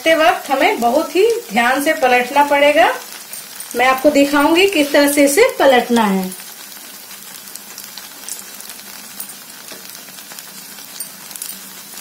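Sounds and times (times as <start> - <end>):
batter deep-frying in oil: 0.0 - 12.0.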